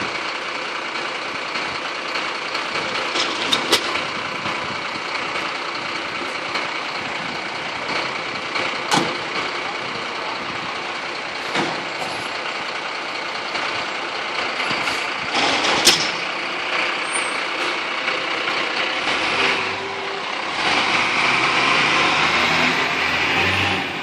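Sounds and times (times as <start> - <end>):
fire engine running: 0.0 - 24.0.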